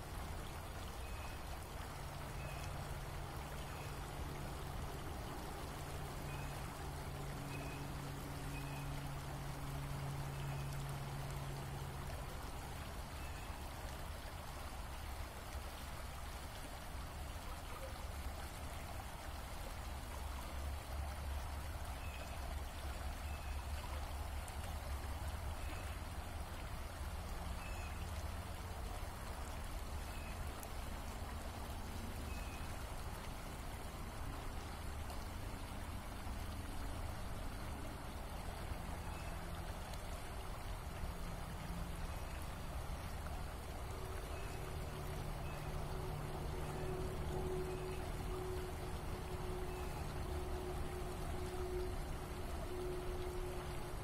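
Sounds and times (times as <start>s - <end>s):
stream rippling: 0.0s - 54.0s.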